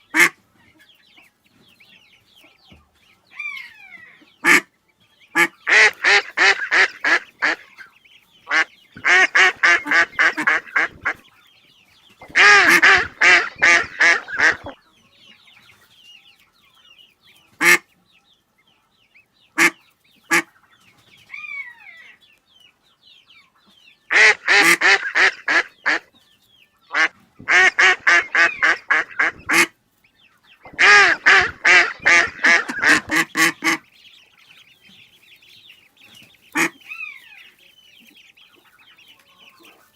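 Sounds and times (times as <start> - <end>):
ducks quacking: 0.0 - 1.3, 2.4 - 14.8, 17.5 - 17.9, 19.4 - 22.2, 24.1 - 26.2, 26.8 - 39.9.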